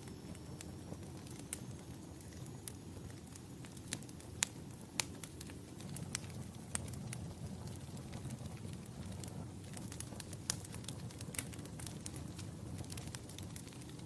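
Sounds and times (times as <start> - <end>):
fire popping and snapping: 0.0 - 14.0
low rumble of burning fire: 0.0 - 14.0.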